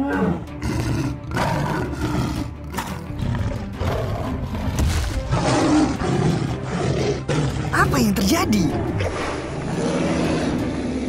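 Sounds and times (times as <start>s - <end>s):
dinosaur roaring and growling: 0.0s - 8.1s, 8.7s - 11.0s
background music: 0.0s - 11.0s.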